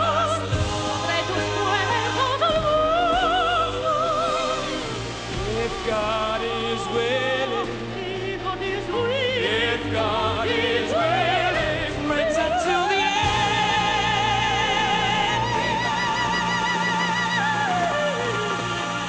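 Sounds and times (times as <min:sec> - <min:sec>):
operatic high voice singing: 0:00.0 - 0:19.0.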